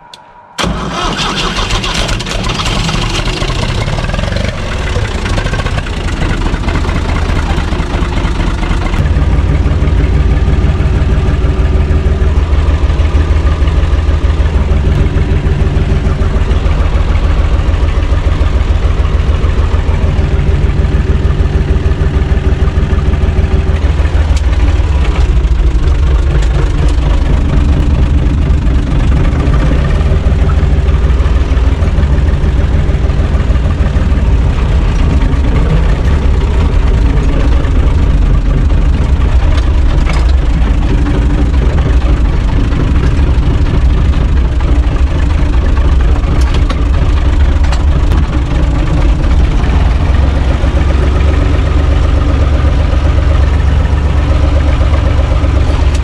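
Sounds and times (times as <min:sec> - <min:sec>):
tractor diesel engine idling: 0:00.0 - 0:56.0.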